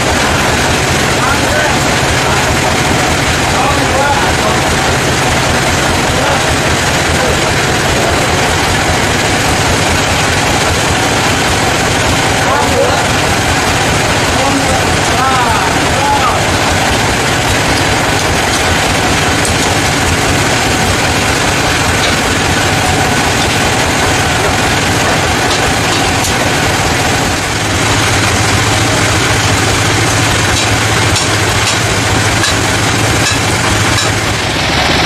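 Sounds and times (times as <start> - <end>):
engine hum: 0.0 - 35.0
sawmill machinery running: 0.0 - 35.0.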